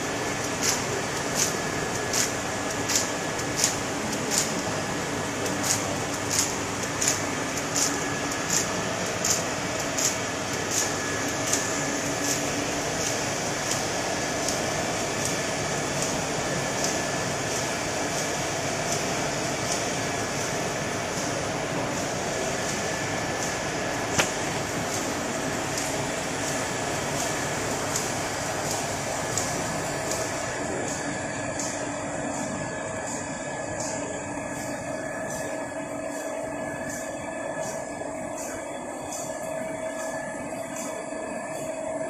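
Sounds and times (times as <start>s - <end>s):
machinery humming: 0.0s - 42.0s.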